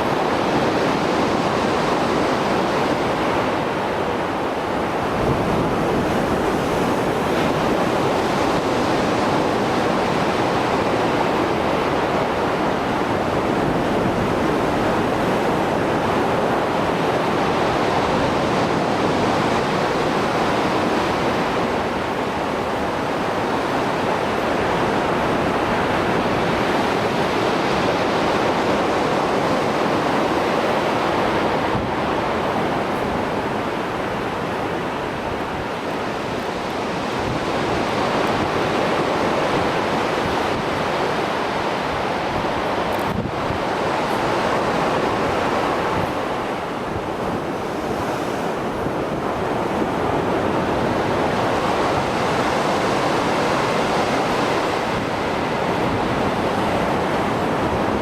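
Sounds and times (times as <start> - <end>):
heavy surf breaking: 0.0 - 58.0.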